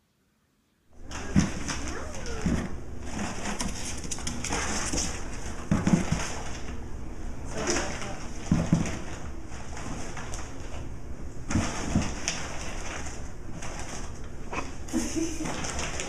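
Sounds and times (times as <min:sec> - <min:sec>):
toys and cardboard rustling on tile: 0:01.0 - 0:06.8, 0:07.4 - 0:16.0.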